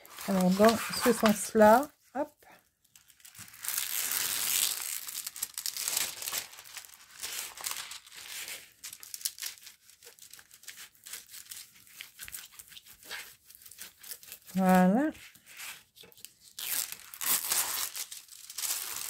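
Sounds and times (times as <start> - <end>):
plastic film crinkling: 0.0 - 1.9, 2.6 - 19.0.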